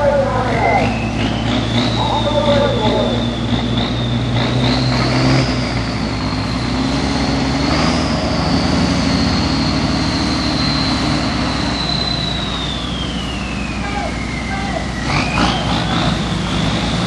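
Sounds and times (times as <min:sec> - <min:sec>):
truck engine under load: 0:00.0 - 0:17.0.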